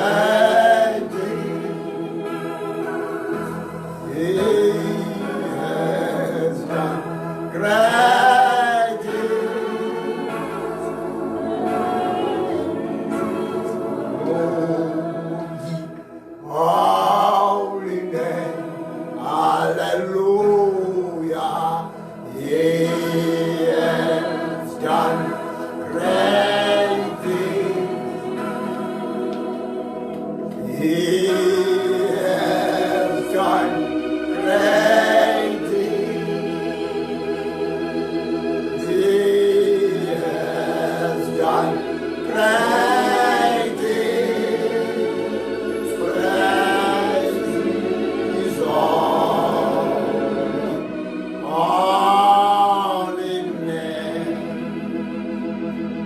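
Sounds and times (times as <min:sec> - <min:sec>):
choir singing gospel: 0:00.0 - 0:56.0.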